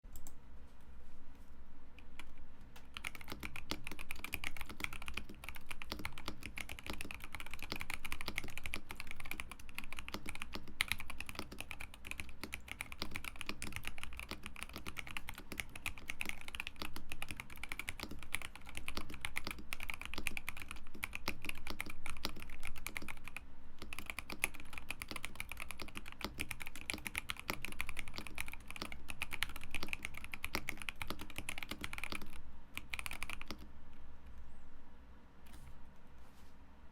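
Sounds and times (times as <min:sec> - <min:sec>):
mechanical keyboard typing: 0:02.9 - 0:33.7.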